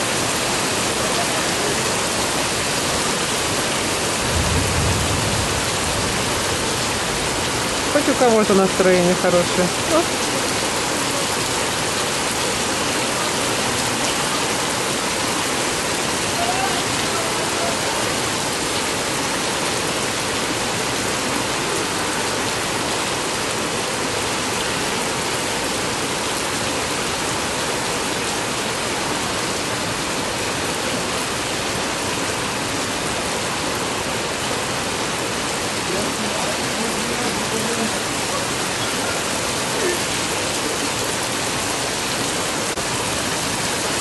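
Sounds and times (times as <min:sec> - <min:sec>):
heavy rain on pavement: 0:00.0 - 0:44.0.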